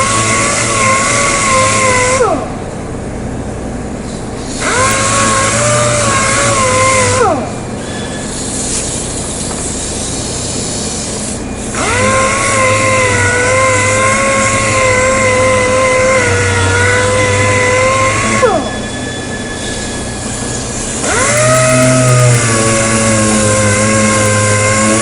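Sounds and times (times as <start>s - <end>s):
sander whining: 0.0s - 2.6s, 4.5s - 25.0s.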